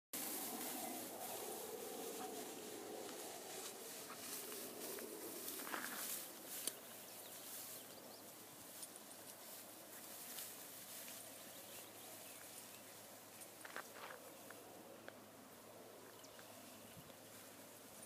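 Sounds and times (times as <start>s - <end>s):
dog rustling through grass: 0.2s - 14.7s
steady outdoor hiss: 0.2s - 18.0s.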